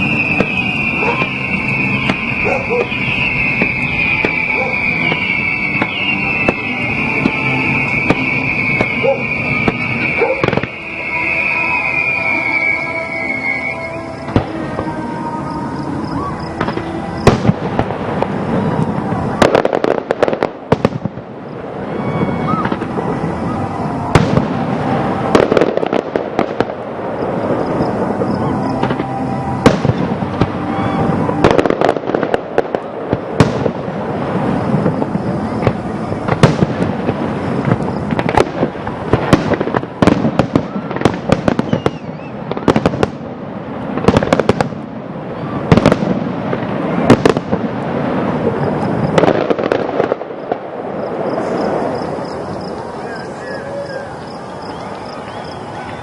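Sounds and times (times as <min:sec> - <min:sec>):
continuous background din: 0:00.0 - 0:56.0
fireworks bangs and booms: 0:00.0 - 0:56.0.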